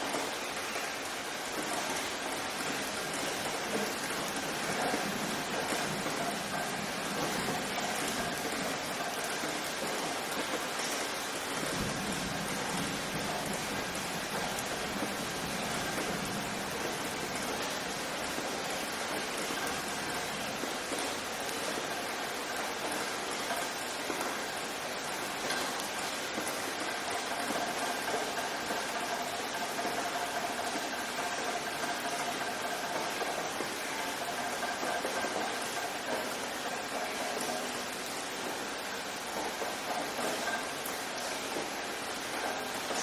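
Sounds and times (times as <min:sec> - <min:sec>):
steady rainfall: 0:00.0 - 0:43.0.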